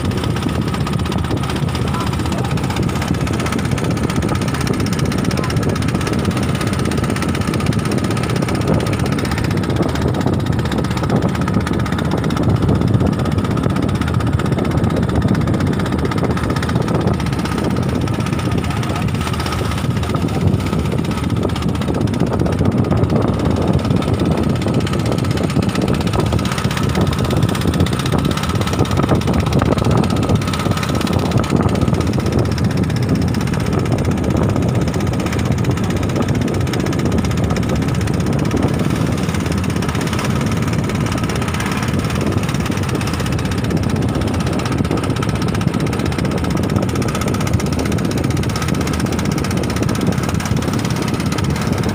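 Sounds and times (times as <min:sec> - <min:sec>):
boat engine droning: 0:00.0 - 0:51.9.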